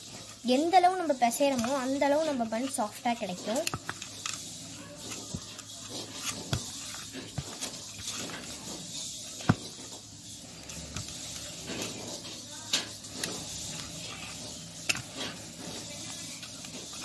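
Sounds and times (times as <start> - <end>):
hands kneading sticky dough: 0.0 - 17.0.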